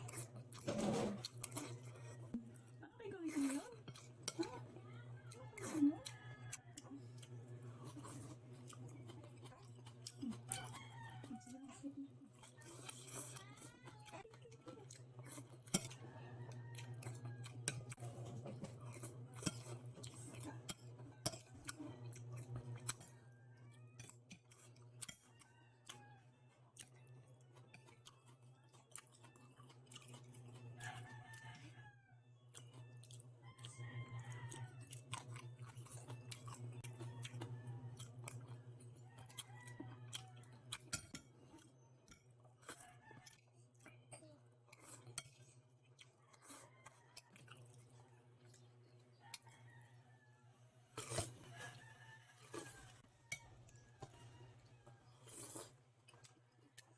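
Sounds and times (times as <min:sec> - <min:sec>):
person chewing: 0:00.0 - 0:02.7, 0:03.3 - 0:04.7, 0:05.6 - 0:10.8, 0:11.7 - 0:23.2, 0:24.0 - 0:26.0, 0:26.6 - 0:31.4, 0:32.4 - 0:49.5, 0:50.9 - 0:51.8, 0:52.4 - 0:54.2, 0:55.0 - 0:56.9.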